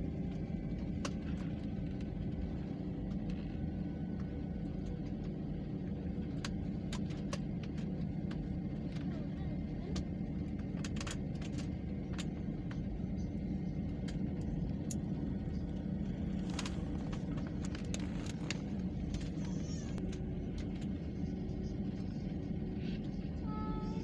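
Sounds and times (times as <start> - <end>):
airliner low rumble: 0.0 - 24.0.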